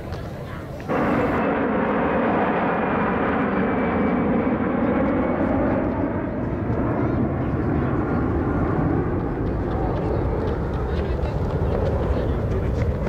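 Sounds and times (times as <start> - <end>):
loud jet engine noise: 0.0 - 13.0.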